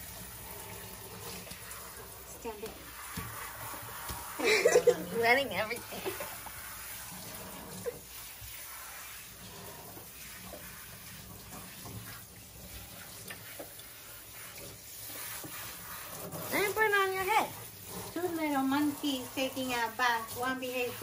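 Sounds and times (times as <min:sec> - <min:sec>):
faucet running water into sink: 0:00.0 - 0:21.0.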